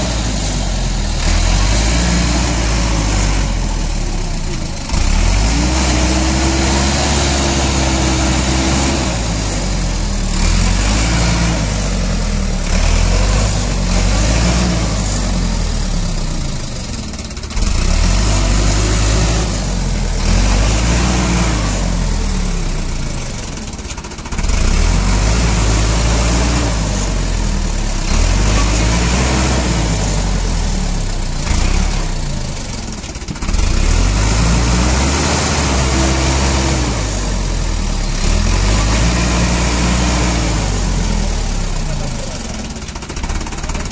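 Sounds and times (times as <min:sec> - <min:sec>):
heavy diesel engine revving: 0:00.0 - 0:43.9.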